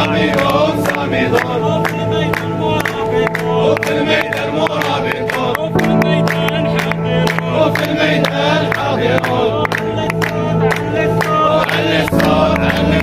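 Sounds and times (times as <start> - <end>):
crowd chanting in unison: 0.0 - 13.0
rhythmic hand-clapping: 0.0 - 13.0.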